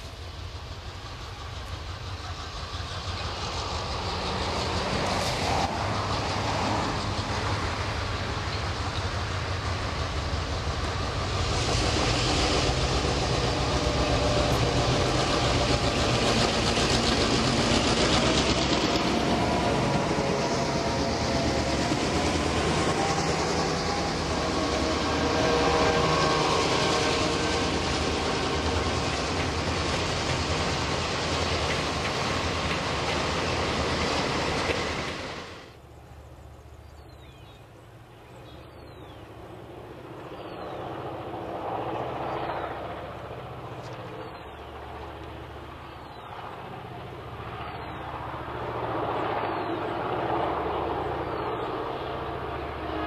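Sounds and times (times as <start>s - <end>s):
train wheels on rails: 0.0s - 35.9s, 38.4s - 53.0s
diesel locomotive engines: 0.0s - 53.0s.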